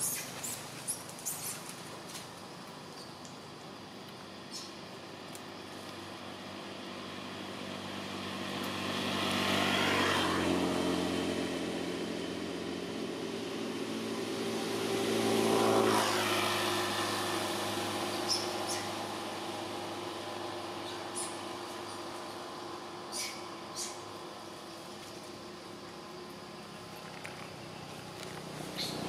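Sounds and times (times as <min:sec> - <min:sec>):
vehicles passing by: 0:00.0 - 0:29.0.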